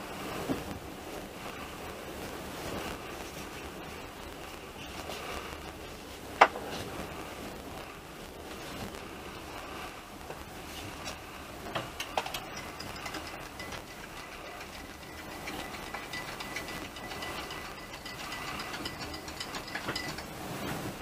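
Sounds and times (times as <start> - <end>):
faint thin whine: 0.0 - 21.0.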